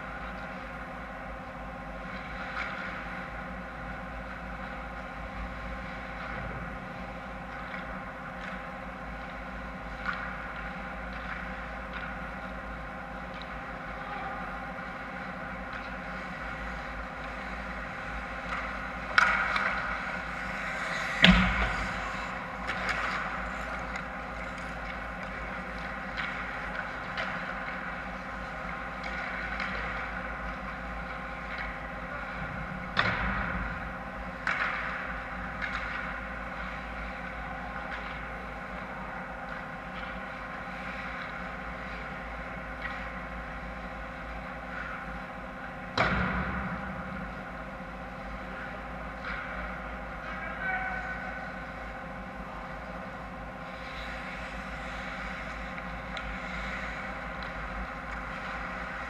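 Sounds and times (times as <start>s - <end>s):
rink background hum: 0.0s - 59.0s.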